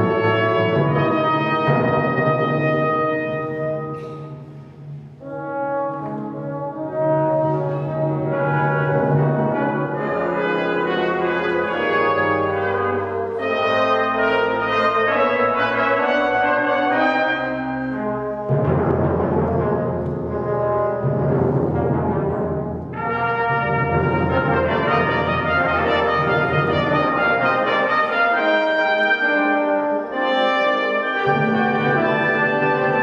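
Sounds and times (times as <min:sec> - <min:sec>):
brass ensemble playing chords: 0:00.0 - 0:33.0.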